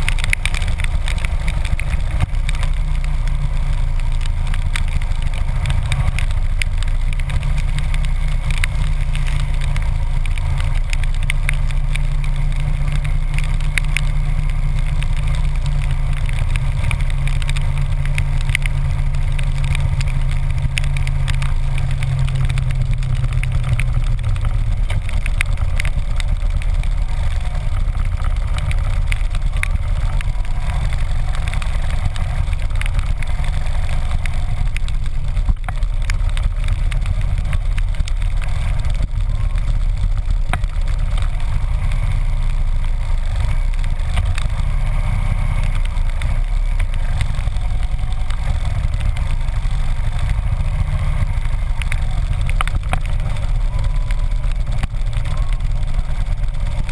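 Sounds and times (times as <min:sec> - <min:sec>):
motorcycle engine droning: 0:00.0 - 0:56.9
raindrops clicking: 0:00.0 - 0:56.9
wind: 0:00.0 - 0:56.9.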